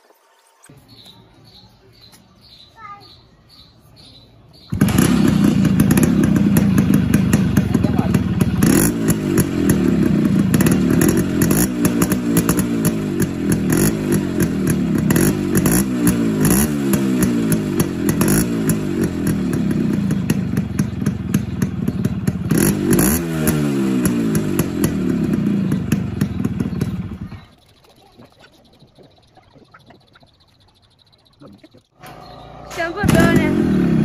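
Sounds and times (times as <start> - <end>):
two-stroke engine revving: 4.6 - 34.0.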